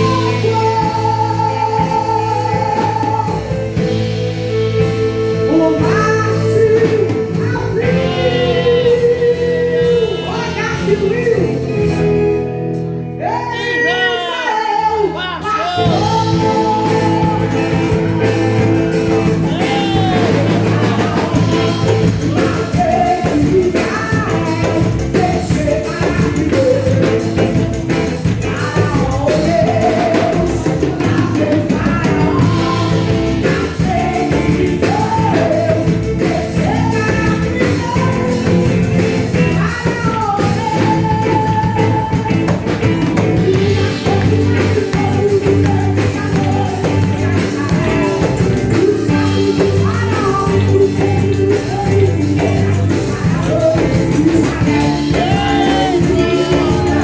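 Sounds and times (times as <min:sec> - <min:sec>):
band accompaniment with beat: 0:00.0 - 0:57.0
person singing: 0:00.0 - 0:57.0.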